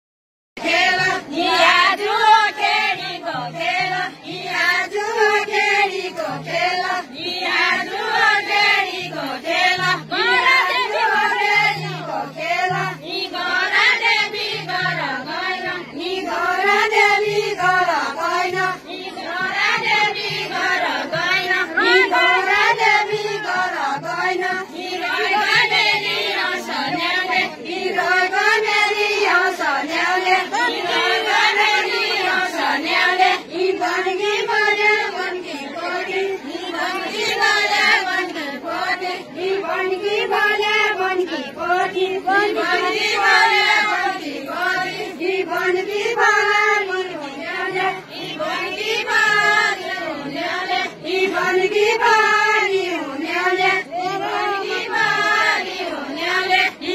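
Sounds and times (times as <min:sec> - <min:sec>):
women singing in chorus: 0:00.6 - 0:56.9.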